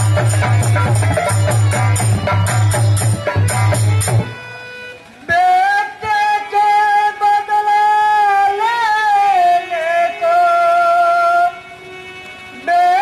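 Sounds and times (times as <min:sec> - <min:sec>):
person singing long notes: 0:00.0 - 0:13.0.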